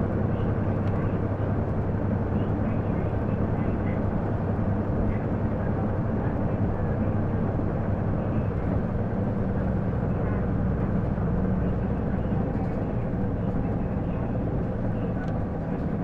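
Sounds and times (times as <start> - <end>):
bus diesel engine: 0.0 - 16.0.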